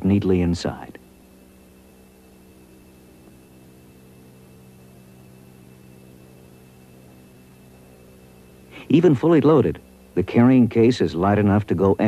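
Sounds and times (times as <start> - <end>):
electrical mains hum: 0.0 - 12.0
soft hiss: 0.0 - 12.0
thin high whine: 0.0 - 12.0.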